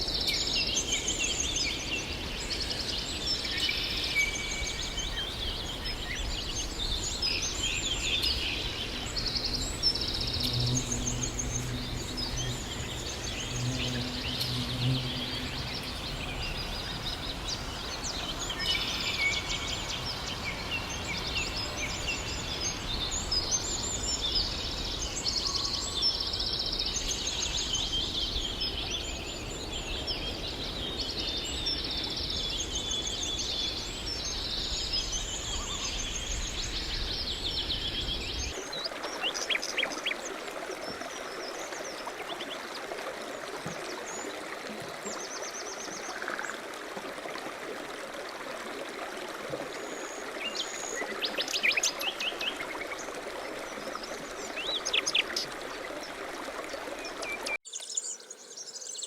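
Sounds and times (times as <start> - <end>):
songbirds singing: 0.0 - 46.6, 49.7 - 59.0.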